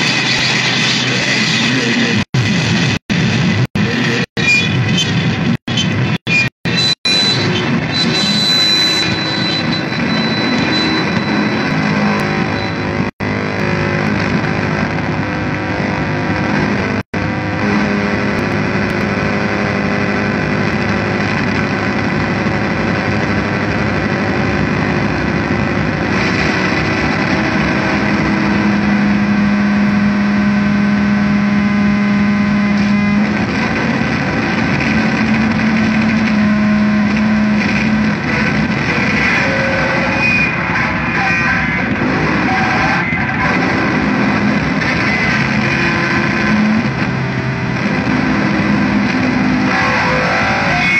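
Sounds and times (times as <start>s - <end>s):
distorted noise music: 0.0s - 50.9s
droning tones: 0.0s - 50.9s
strong low drone: 6.8s - 50.9s.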